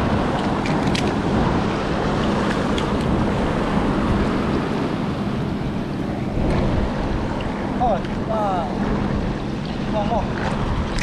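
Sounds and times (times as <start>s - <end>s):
surf washing over rocks: 0.0s - 11.0s
wind rumbling on microphone: 0.0s - 11.0s.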